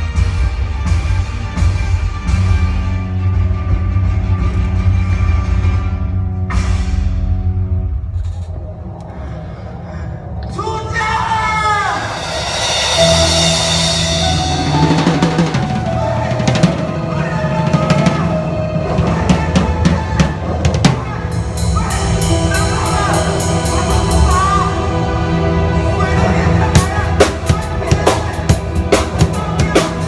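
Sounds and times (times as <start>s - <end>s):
band music: 0.0s - 9.0s, 10.6s - 30.0s.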